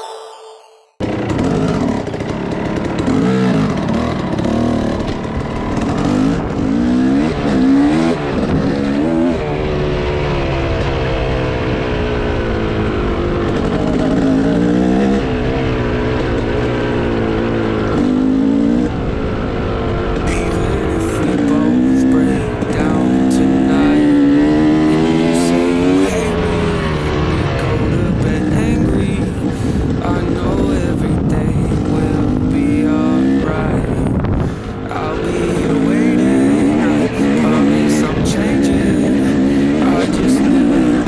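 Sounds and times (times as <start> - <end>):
motorcycle engine revving: 1.0 - 41.0.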